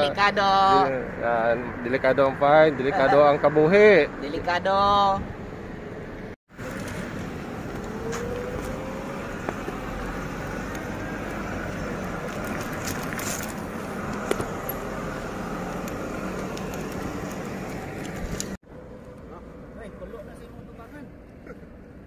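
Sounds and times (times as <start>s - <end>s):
tyre noise on paved road: 1.4s - 22.0s.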